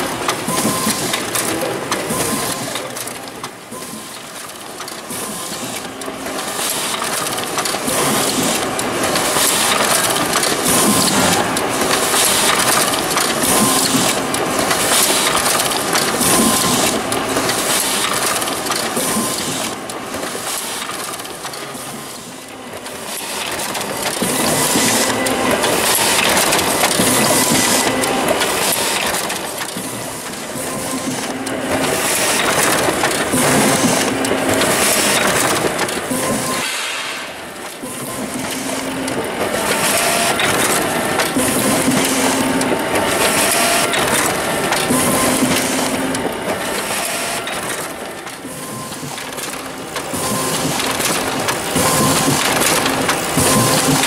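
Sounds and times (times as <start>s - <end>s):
laser printer whirring: 0.0s - 54.0s
paper rustling through rollers: 0.0s - 54.0s.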